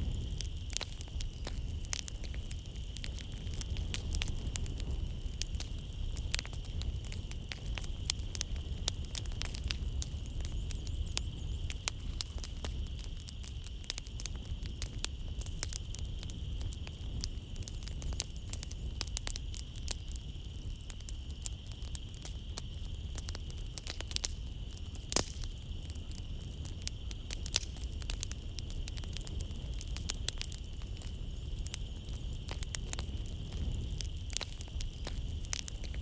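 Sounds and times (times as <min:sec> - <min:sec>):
night insects droning: 0:00.0 - 0:36.0
wood fire crackling: 0:00.0 - 0:36.0.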